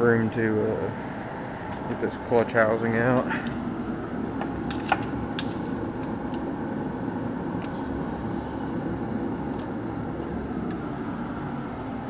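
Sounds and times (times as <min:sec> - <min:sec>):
workshop mechanical hum: 0:00.0 - 0:12.0.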